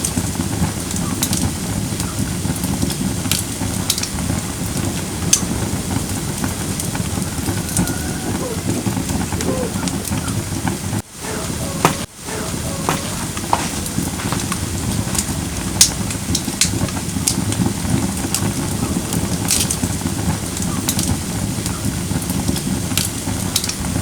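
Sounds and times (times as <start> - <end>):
firewood crackling in fire pit: 0.0 - 24.0.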